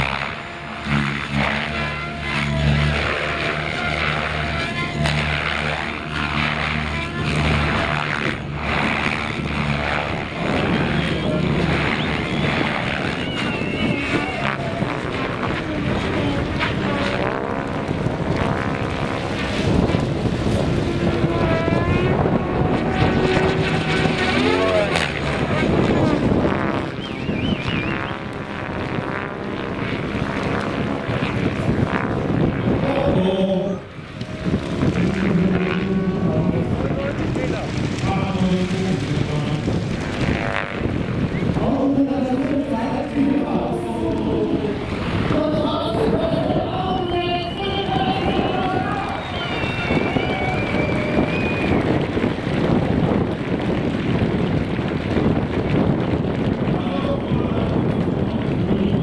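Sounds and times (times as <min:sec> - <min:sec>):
electric motor whine: 0:00.0 - 0:52.7
rotor blades whooshing: 0:00.0 - 0:53.4
low hum: 0:00.0 - 0:59.0
wind noise on microphone: 0:00.0 - 0:59.0.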